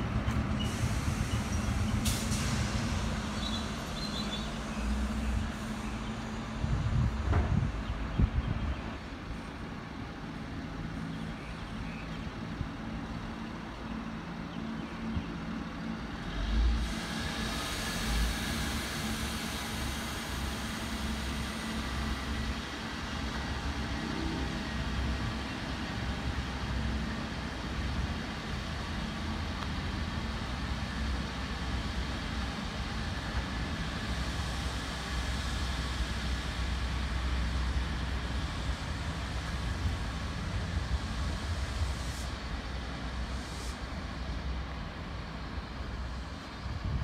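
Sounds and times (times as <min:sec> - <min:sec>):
diesel railcar humming: 0:00.0 - 0:47.0.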